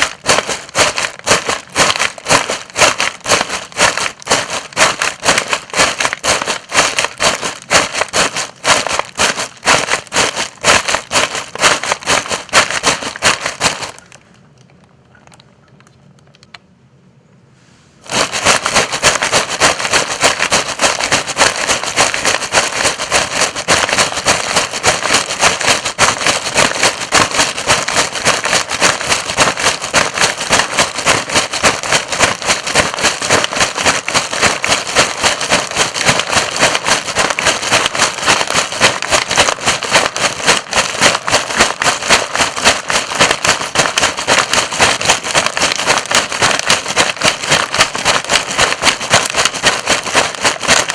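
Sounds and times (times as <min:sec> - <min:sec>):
dry leaves crunching underfoot: 0:00.0 - 0:14.1, 0:18.1 - 0:50.9.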